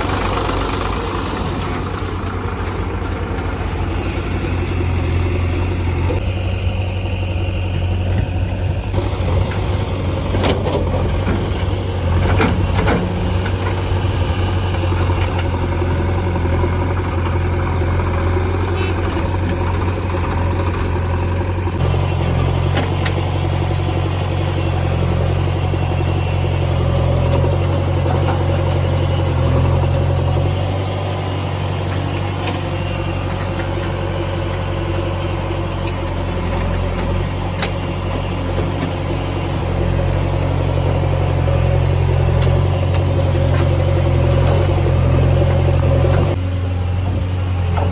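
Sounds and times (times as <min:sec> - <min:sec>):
diesel machinery engine humming: 0:00.0 - 0:47.9.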